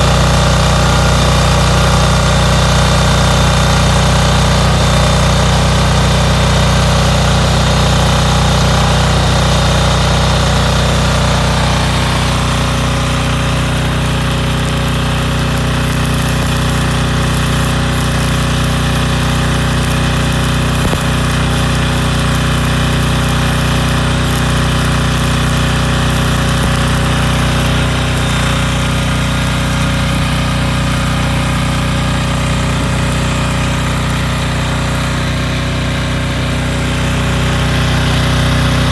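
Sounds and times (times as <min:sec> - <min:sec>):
welding set humming and hissing: 0:00.0 - 0:38.9.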